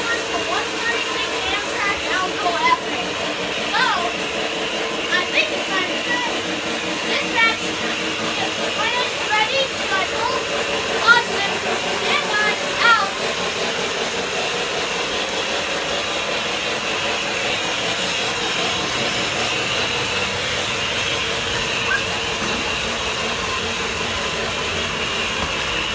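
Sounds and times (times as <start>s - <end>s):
model trains whirring on track: 0.0s - 25.9s.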